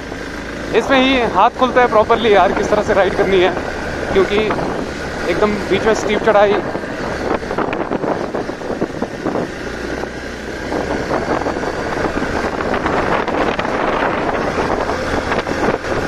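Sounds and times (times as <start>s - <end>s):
motorcycle engine under load: 0.0s - 16.0s
wind buffeting microphone: 2.0s - 16.0s.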